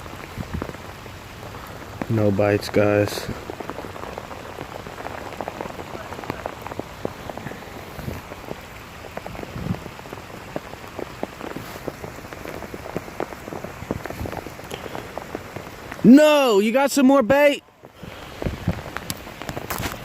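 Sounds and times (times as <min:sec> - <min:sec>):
raindrops pattering on camera: 0:00.0 - 0:20.0
steady rain falling: 0:00.0 - 0:20.0.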